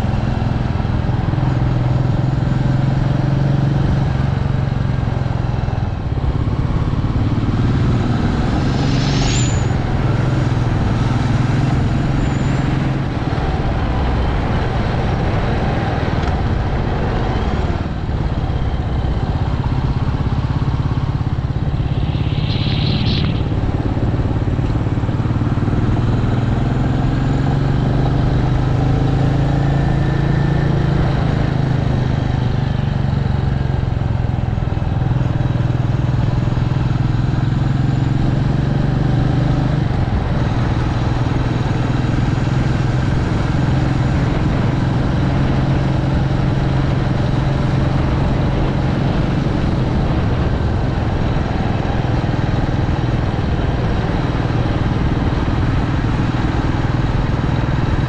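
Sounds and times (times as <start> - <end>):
motorcycle engine running: 0.0 - 58.0
constant rush of noise: 3.4 - 37.1, 39.7 - 58.0.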